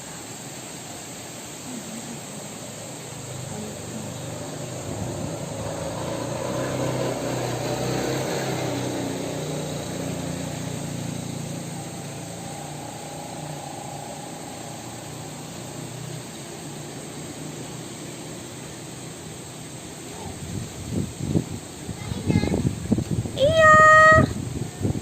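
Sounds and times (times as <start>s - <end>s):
boat engine humming: 0.0s - 25.0s
sea noise: 0.0s - 25.0s
wind: 0.0s - 25.0s.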